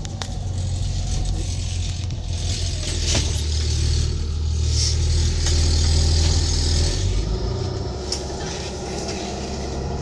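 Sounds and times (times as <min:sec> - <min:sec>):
diesel truck engine drone: 0:00.0 - 0:10.0
road and tyre noise: 0:00.0 - 0:10.0.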